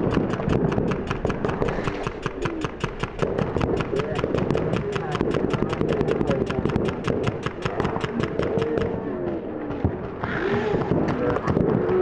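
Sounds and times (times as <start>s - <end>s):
paintball markers firing rapidly: 0.0s - 9.1s, 9.7s - 12.0s.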